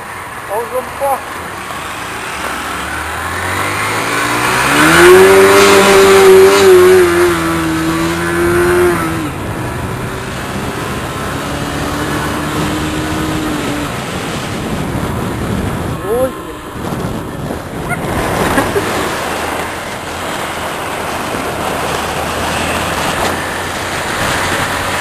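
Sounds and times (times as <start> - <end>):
engine revving: 0.5 - 25.0.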